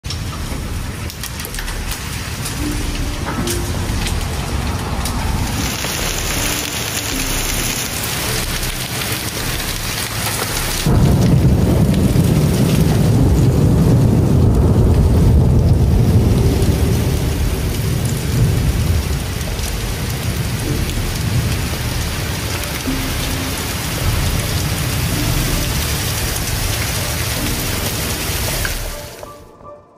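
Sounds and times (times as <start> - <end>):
heavy rain pouring: 0.0 - 29.6
deep thunder rumble: 0.1 - 29.2.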